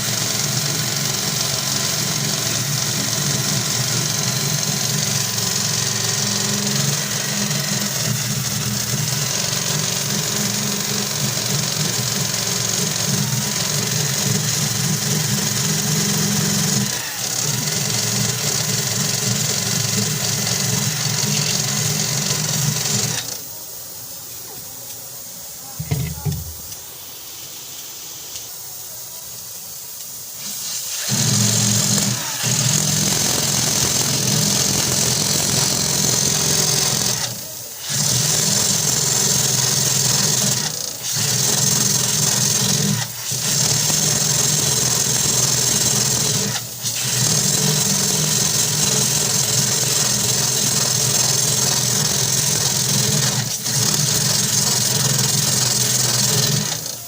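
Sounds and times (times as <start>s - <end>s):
power tool motor running: 0.0s - 23.5s, 25.8s - 26.9s, 30.4s - 57.0s.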